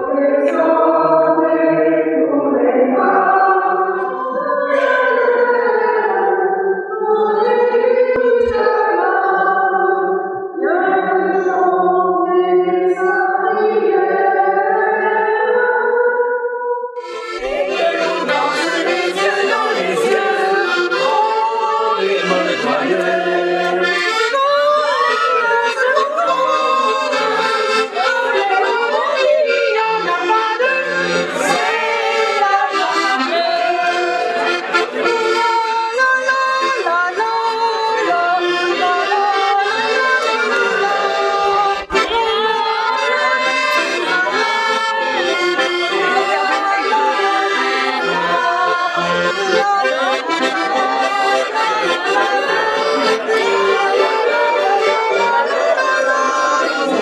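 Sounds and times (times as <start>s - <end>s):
accordion melody: 0.0s - 14.0s, 17.0s - 57.0s.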